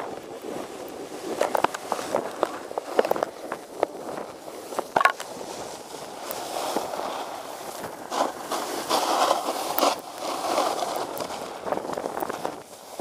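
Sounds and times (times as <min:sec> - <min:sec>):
skis scraping over snow: 0:00.0 - 0:13.0.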